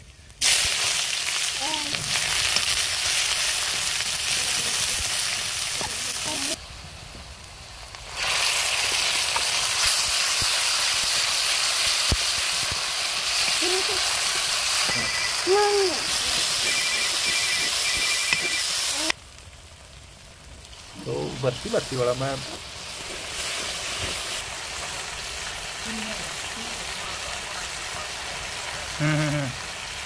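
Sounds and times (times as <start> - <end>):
paste sizzling in hot oil: 0.4 - 19.2, 19.8 - 30.0.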